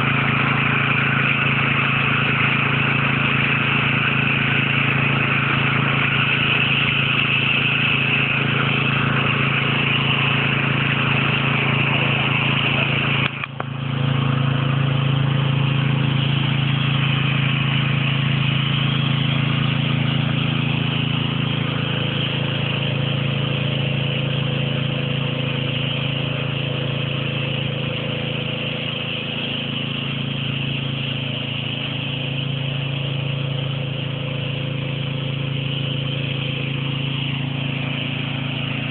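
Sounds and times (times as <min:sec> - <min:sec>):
water gushing from pipe: 0:00.0 - 0:38.9
water pump engine running: 0:00.0 - 0:38.9.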